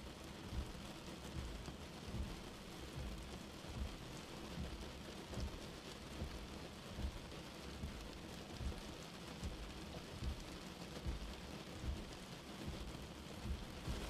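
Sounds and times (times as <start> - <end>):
steady rain falling: 0.0 - 14.0
short low thuds: 0.4 - 6.4, 7.0 - 8.8, 9.4 - 14.0.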